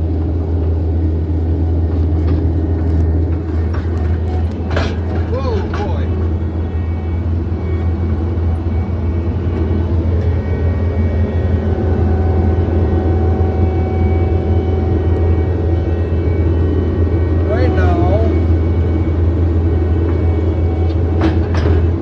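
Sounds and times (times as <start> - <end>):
diesel engine humming: 0.0 - 22.0
thin steady whine: 0.0 - 22.0.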